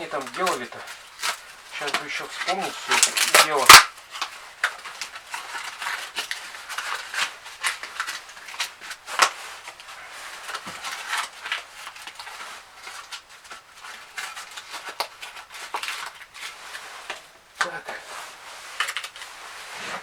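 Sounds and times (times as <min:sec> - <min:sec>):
knife scraping wood: 0:00.0 - 0:20.0.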